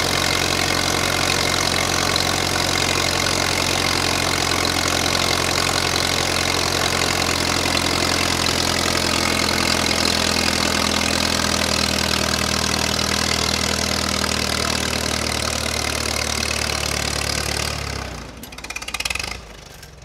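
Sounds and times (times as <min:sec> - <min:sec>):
tractor engine running under load: 0:00.0 - 0:20.0.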